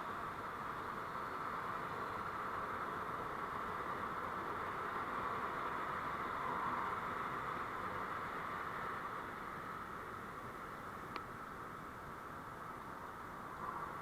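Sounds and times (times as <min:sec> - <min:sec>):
vehicle road noise hiss: 0:00.0 - 0:14.0.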